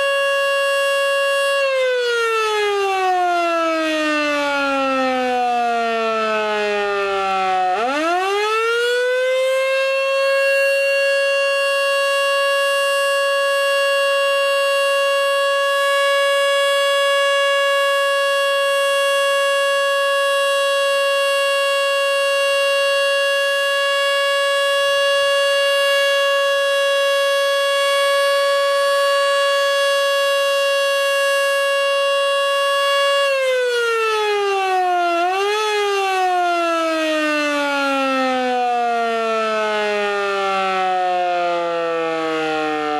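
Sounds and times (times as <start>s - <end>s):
electromechanical fire siren: 0.0s - 42.9s.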